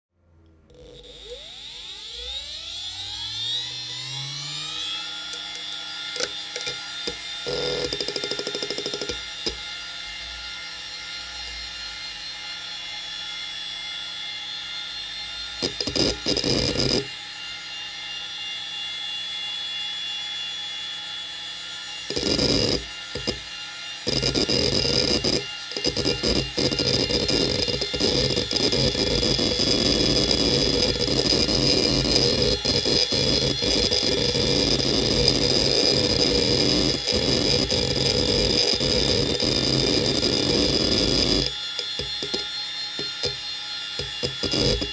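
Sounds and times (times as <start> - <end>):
hard drive whine: 0.5 - 17.4, 21.7 - 44.9.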